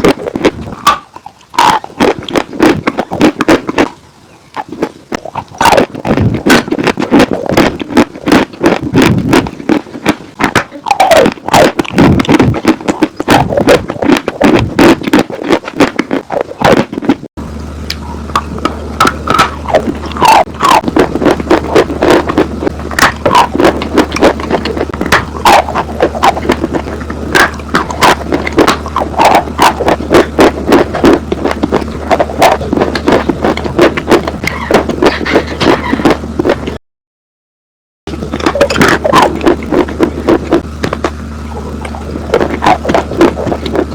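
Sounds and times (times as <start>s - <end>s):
crunching and chewing: 0.0s - 17.3s, 17.9s - 36.8s, 38.1s - 43.9s
steady low hum: 0.0s - 36.8s, 38.1s - 43.9s.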